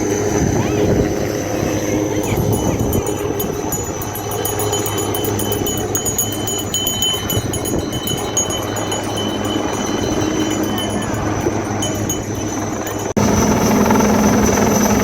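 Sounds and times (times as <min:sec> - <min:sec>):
helicopter hovering: 0:00.0 - 0:15.0
crowd chattering: 0:00.4 - 0:13.1.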